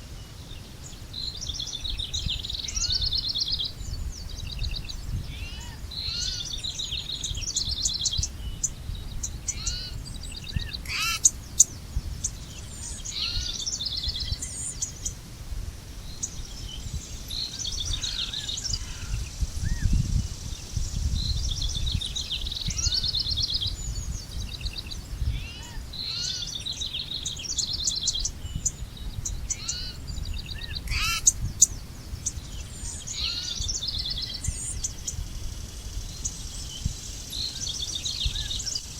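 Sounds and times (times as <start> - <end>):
birds singing with trills: 0.0 - 15.3, 15.9 - 38.9.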